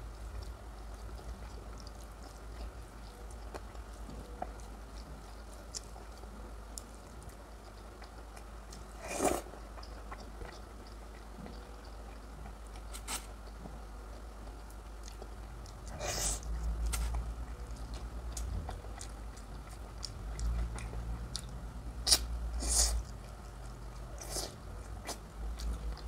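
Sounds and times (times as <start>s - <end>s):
person chewing: 0.3s - 26.0s.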